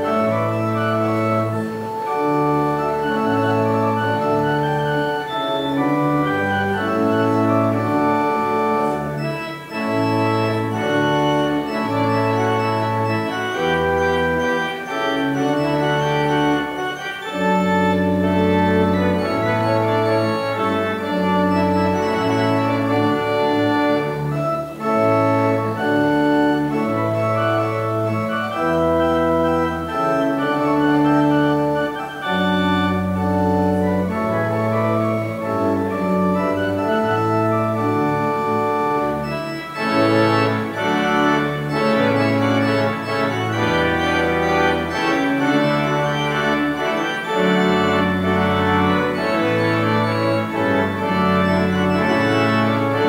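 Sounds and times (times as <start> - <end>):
organ playing held chords: 0.0 - 53.0.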